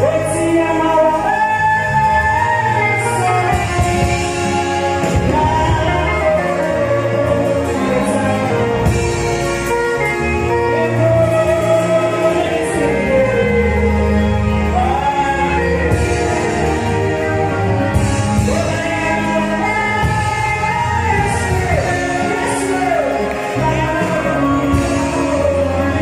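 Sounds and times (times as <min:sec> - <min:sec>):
gospel voices singing: 0:00.0 - 0:26.0
instrumental accompaniment with bass: 0:00.0 - 0:26.0.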